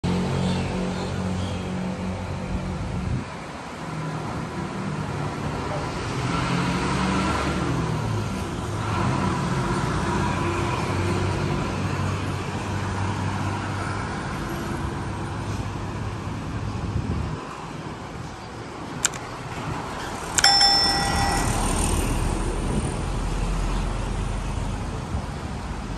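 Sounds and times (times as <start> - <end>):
vehicles passing: 0.1 - 25.9.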